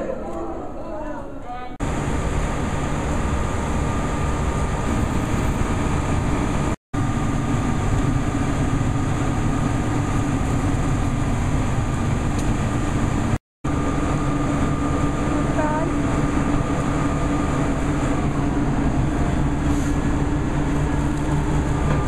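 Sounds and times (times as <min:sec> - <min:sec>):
diesel engine idling: 0:01.8 - 0:22.0.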